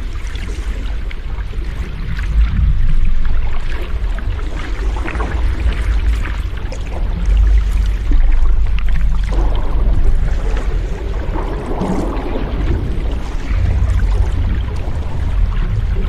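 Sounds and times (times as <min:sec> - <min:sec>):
sea waves washing in: 0:00.0 - 0:16.0.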